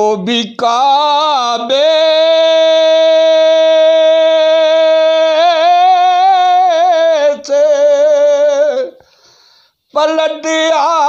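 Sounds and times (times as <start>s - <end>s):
man singing unaccompanied: 0.0s - 9.1s, 9.9s - 11.0s.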